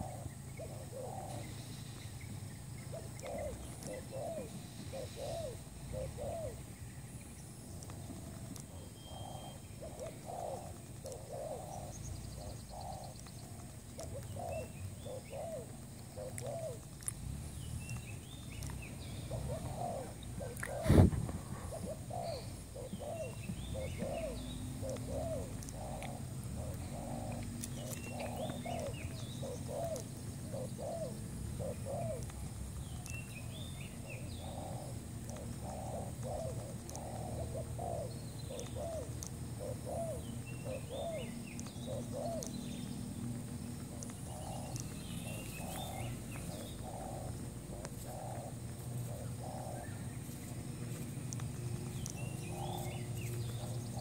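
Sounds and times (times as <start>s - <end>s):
dove cooing: 0.0s - 6.8s, 8.0s - 54.0s
small birds chirping: 0.0s - 54.0s.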